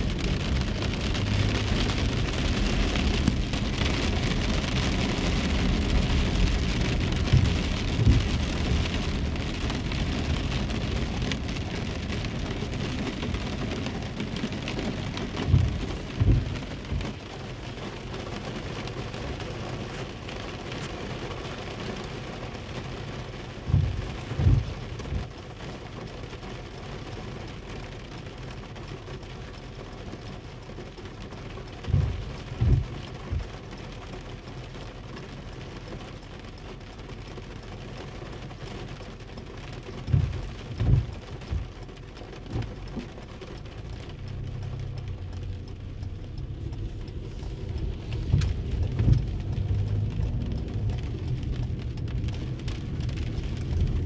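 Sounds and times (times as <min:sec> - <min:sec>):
rain on a car: 0:00.0 - 0:54.0
vehicle hum: 0:00.0 - 0:54.0.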